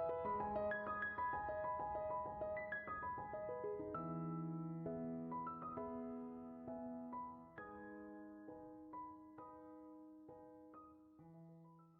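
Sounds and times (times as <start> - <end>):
slow gentle piano notes: 0.0 - 11.9.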